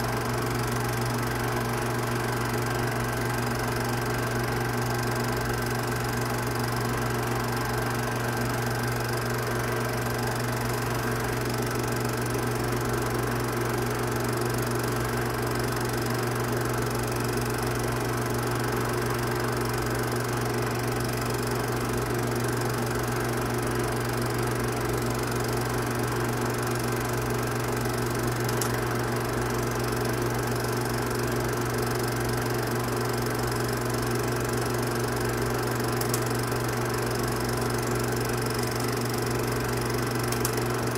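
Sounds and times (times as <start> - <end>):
film projector hum and whir: 0.0 - 40.9.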